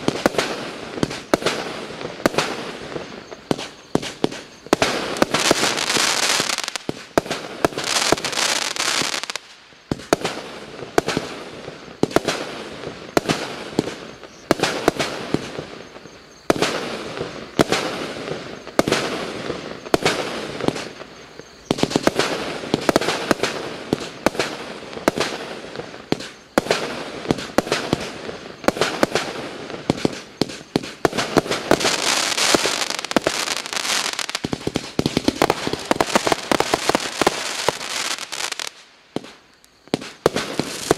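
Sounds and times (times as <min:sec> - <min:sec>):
fireworks crackling: 0:00.0 - 0:40.9
fireworks launches and bursts: 0:00.0 - 0:40.9.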